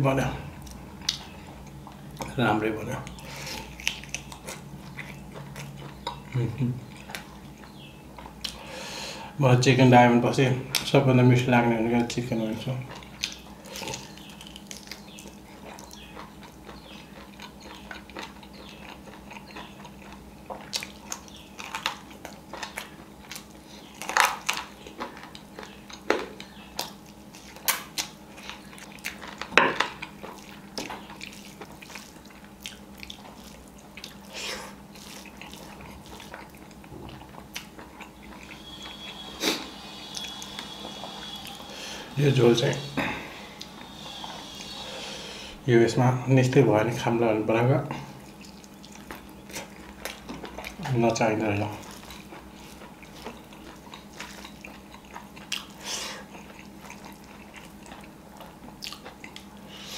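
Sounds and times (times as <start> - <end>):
faint steady hum: 0.0 - 59.9
person chewing and crunching: 0.4 - 9.0, 11.9 - 45.7, 48.0 - 59.9.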